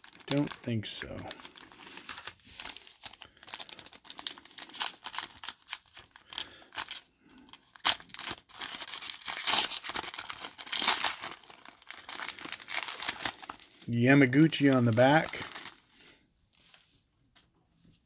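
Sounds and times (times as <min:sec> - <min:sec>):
foil wrapper tearing and crinkling: 0:00.0 - 0:16.0.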